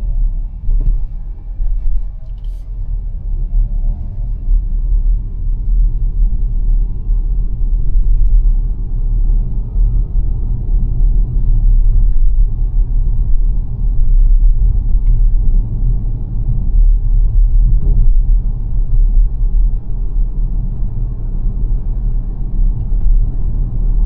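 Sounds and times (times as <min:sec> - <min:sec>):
road and tyre rumble: 0:00.0 - 0:24.0.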